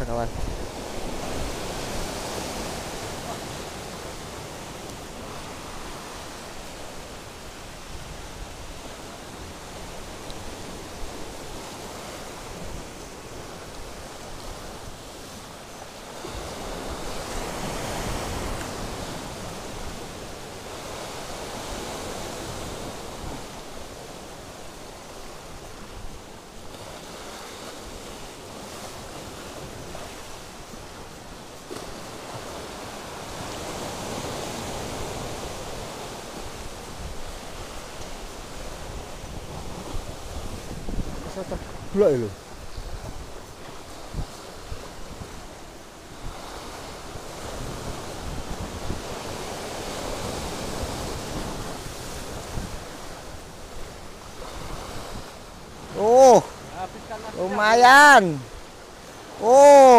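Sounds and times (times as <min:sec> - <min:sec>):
sea surf breaking over rocks: 0:00.0 - 0:59.9.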